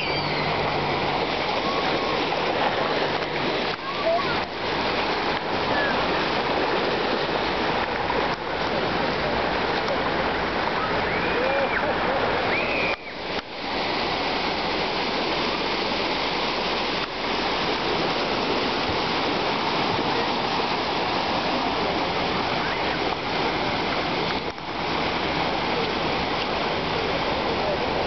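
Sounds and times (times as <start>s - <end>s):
car ploughing through floodwater: 0.0s - 28.0s
water splashing: 0.0s - 28.0s.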